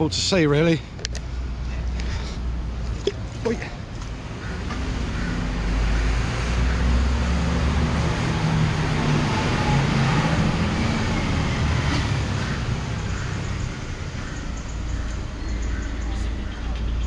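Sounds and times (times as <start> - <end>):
heavy vehicle engine rumble: 0.0 - 17.0
road traffic passing: 0.0 - 17.0.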